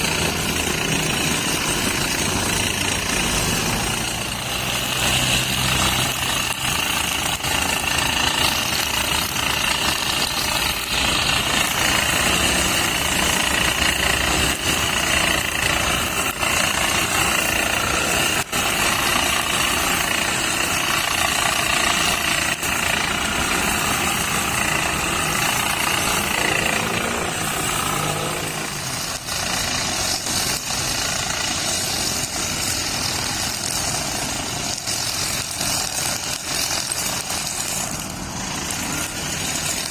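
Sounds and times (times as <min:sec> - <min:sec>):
brush cutter running: 0:00.0 - 0:39.9.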